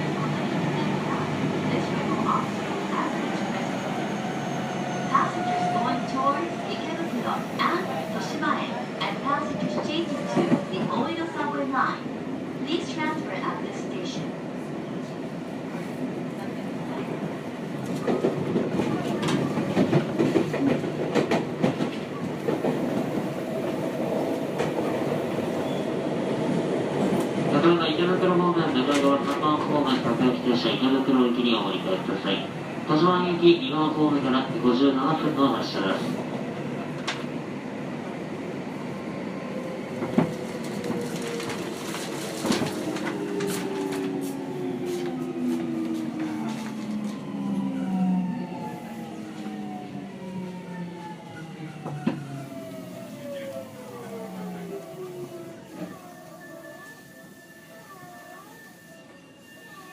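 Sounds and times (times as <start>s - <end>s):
train rolling noise: 0.0s - 14.2s, 15.0s - 32.5s, 34.2s - 58.2s.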